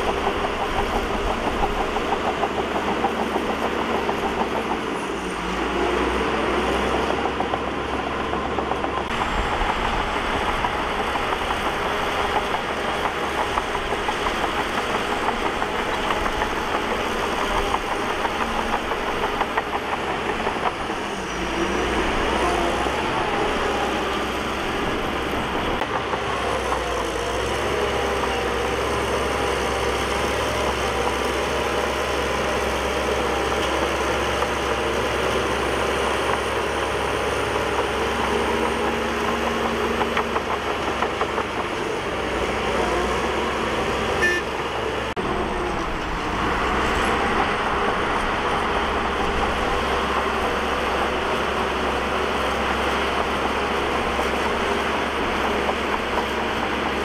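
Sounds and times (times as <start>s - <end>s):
diesel earthmoving machinery running: 0.0s - 57.0s.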